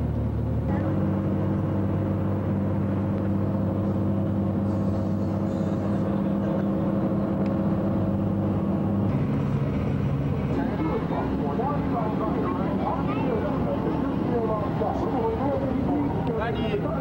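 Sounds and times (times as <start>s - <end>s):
tyre and road noise: 0.0s - 17.0s
vehicle engine cruising: 0.0s - 17.0s.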